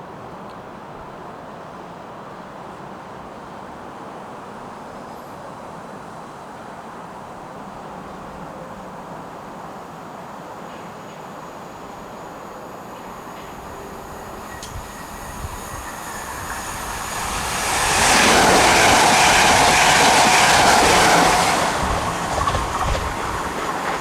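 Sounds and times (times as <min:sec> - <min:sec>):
train rumble and rail noise: 0:00.0 - 0:24.0
steam train passing: 0:02.2 - 0:24.0.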